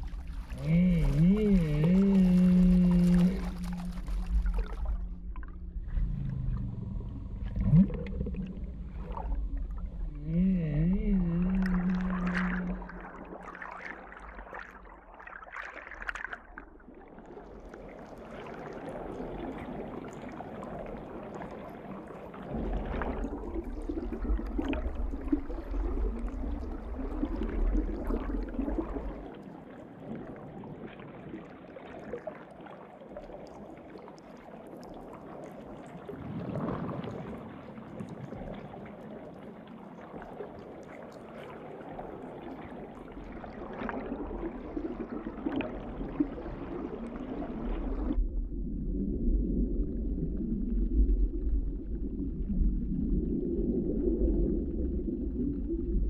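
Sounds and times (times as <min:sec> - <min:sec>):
deep underwater rumble: 0:00.0 - 0:56.0
underwater rush of water: 0:00.0 - 0:56.0.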